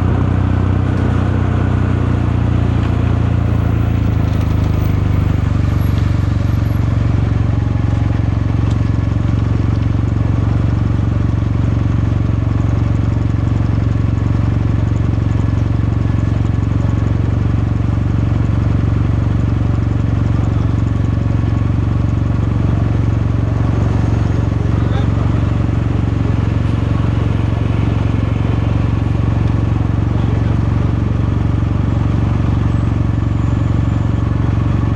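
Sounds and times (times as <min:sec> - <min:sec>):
motorcycle engine exhaust: 0:00.0 - 0:34.9.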